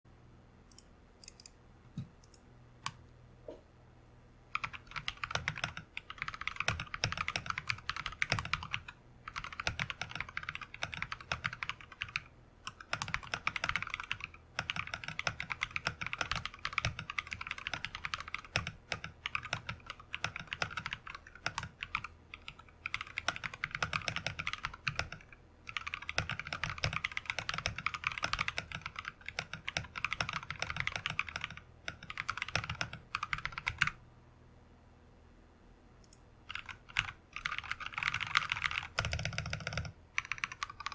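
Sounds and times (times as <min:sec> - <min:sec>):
typing on mechanical keyboard: 0:04.5 - 0:34.0, 0:36.5 - 0:40.9.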